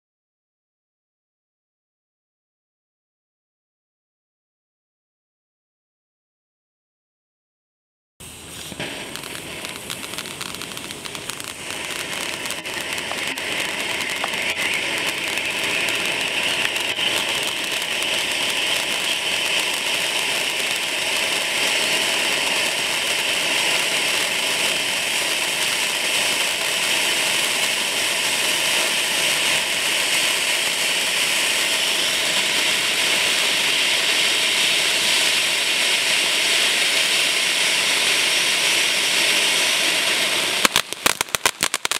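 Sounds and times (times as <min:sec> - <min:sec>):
fountain firework hissing: 0:08.2 - 0:41.9.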